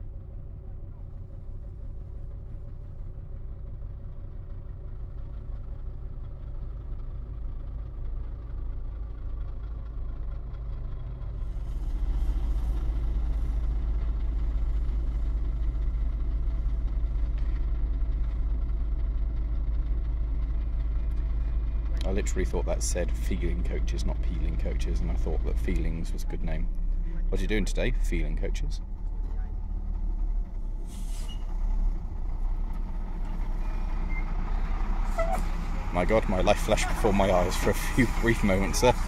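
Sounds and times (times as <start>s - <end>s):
diesel bus engines: 0.0s - 39.0s.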